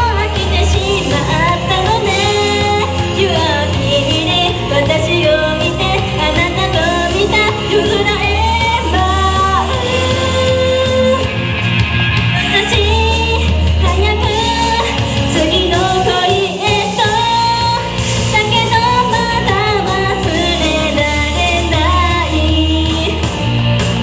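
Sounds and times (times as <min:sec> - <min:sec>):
woman singing into a microphone: 0:00.0 - 0:11.4, 0:12.4 - 0:23.7
pop backing track with bass: 0:00.0 - 0:24.0.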